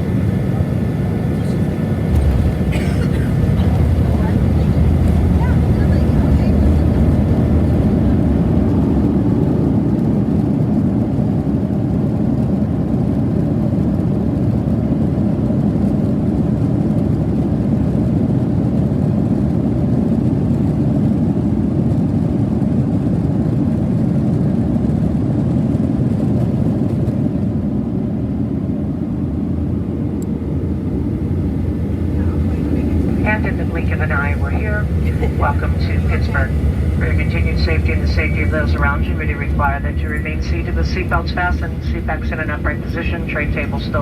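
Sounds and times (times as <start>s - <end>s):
jet engine cabin rumble: 0.0s - 44.0s.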